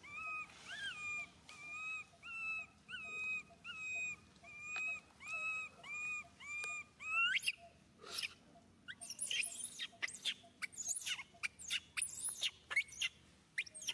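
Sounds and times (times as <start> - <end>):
baby monkey crying: 0.0 - 13.1.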